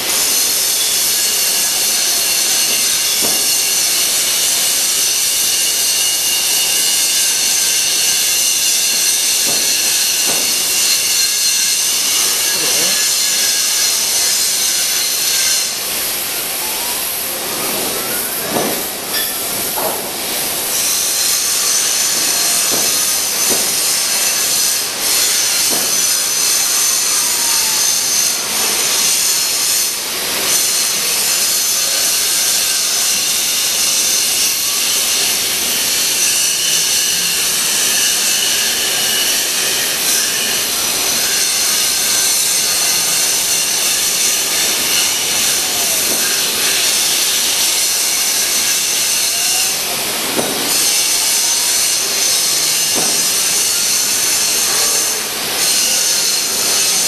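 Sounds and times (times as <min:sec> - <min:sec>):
foam cutting machine hiss: 0:00.0 - 0:57.0.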